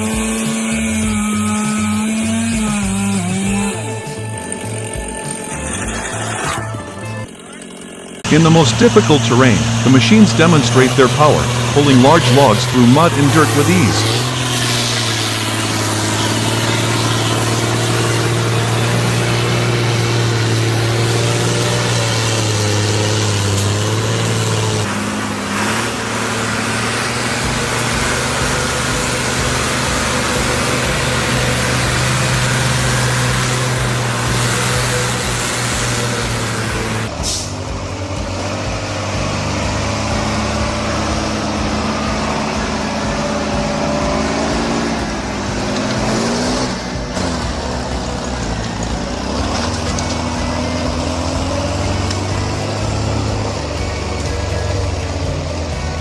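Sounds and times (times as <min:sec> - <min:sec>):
heavy machine engine under load: 0:00.0 - 0:56.0.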